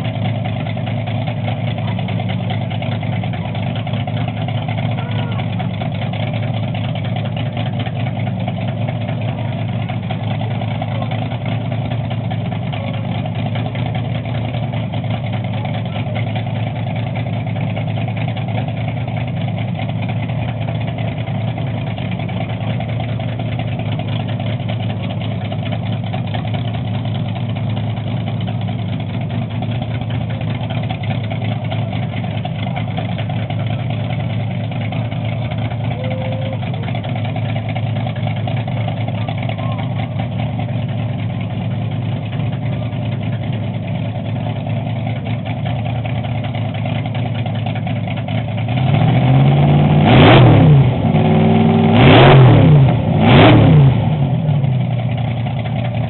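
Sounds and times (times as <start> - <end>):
engine idling steadily: 0.0 - 56.0.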